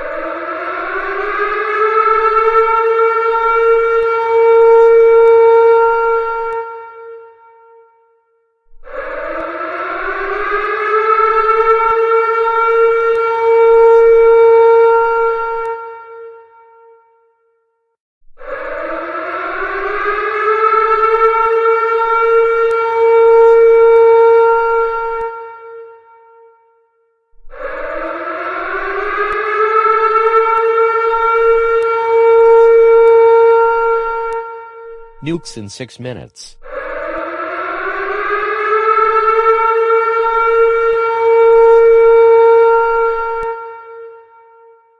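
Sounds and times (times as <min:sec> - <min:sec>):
civil defense siren: 0:00.0 - 0:35.4, 0:36.6 - 0:44.9.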